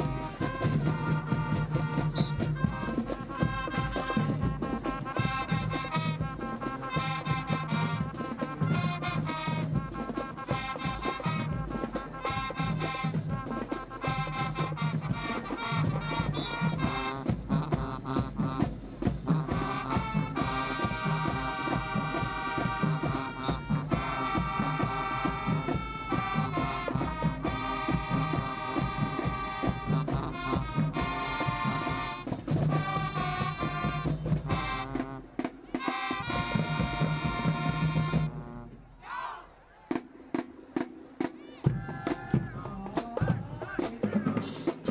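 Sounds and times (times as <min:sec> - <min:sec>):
marching band playing brass: 0:00.0 - 0:44.9.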